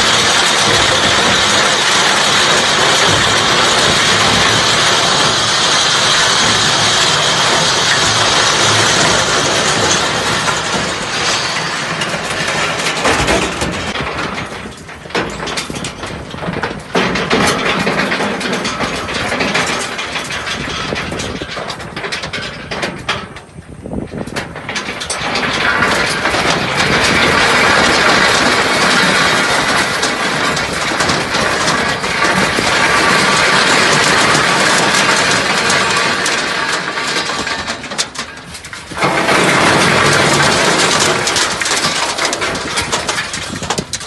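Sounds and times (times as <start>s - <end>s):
stones clattering in machine: 0.0s - 44.0s
tractor engine: 0.0s - 44.0s.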